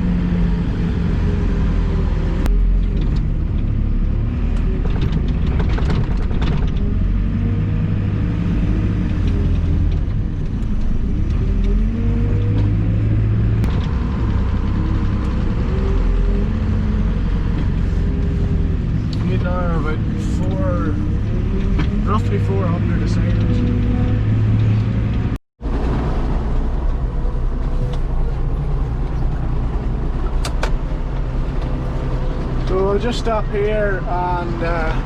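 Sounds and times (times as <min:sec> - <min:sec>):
diesel loader engine revving: 0:00.0 - 0:35.0.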